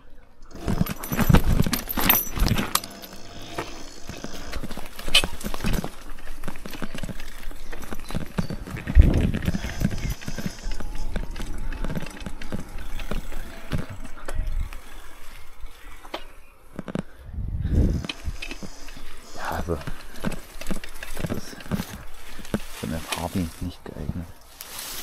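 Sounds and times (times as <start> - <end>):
bike frame and chain rattling: 0.4 - 17.1, 17.9 - 25.0.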